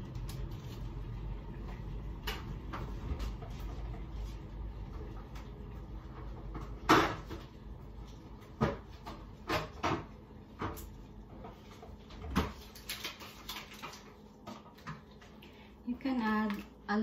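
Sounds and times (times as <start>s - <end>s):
items and shelves clattering: 1.6s - 15.4s.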